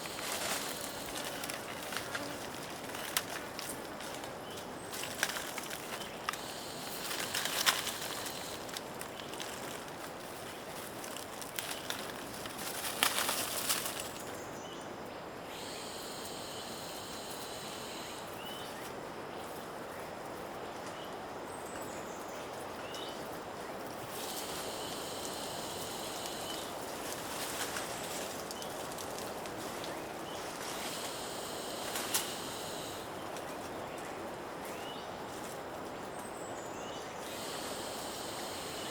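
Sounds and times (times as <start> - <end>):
rustling footsteps on trail: 0.0 - 14.5, 15.6 - 38.9
background hiss: 0.0 - 38.9
insects buzzing: 0.0 - 38.9.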